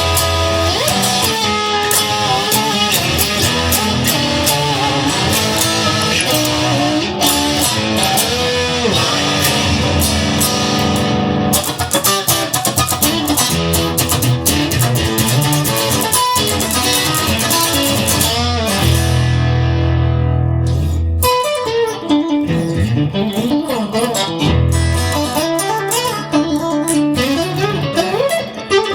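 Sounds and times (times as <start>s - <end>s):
bass guitar: 0.0s - 28.9s
electric guitar: 0.0s - 28.9s.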